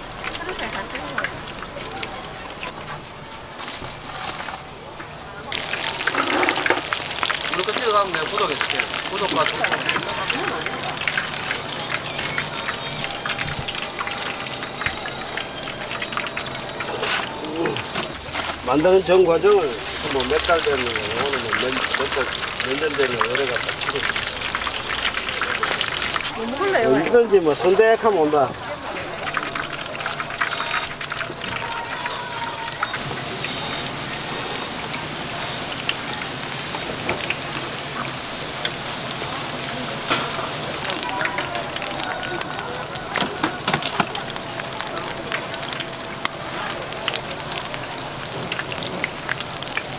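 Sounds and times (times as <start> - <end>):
oil sizzling in deep fryer: 0.0 - 49.9.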